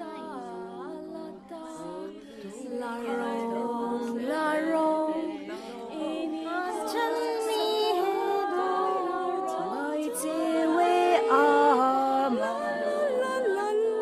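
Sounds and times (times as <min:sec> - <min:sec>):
women singing together: 0:00.0 - 0:14.0.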